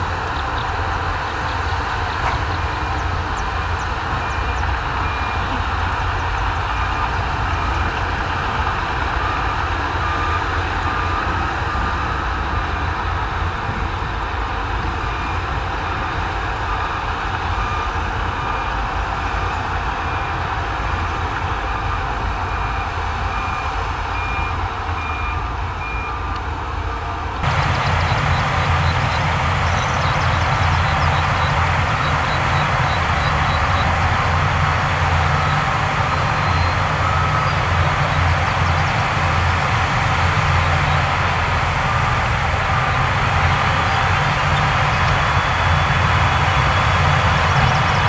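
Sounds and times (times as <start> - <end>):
diesel machinery engines running: 0.0 - 48.0
reversing alarm beeping: 1.4 - 12.5, 14.8 - 26.4, 27.4 - 48.0.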